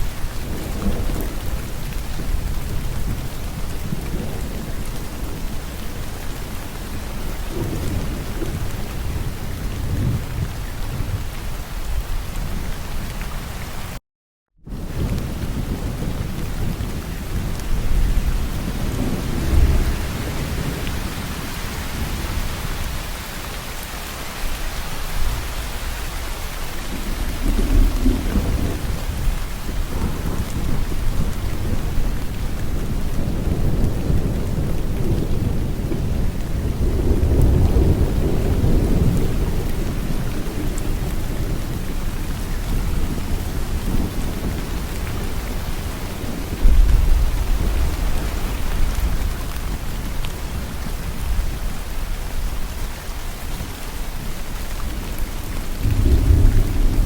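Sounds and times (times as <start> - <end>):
thunder rumbling: 0.0 - 13.0, 14.7 - 23.8, 24.4 - 57.0
heavy rain: 0.0 - 14.0, 14.7 - 57.0.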